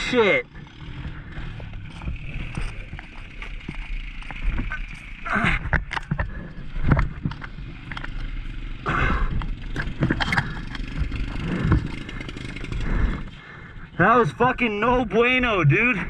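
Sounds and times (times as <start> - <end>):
trike engine lugging: 0.0 - 16.0
clunks and scrapes: 0.5 - 13.7.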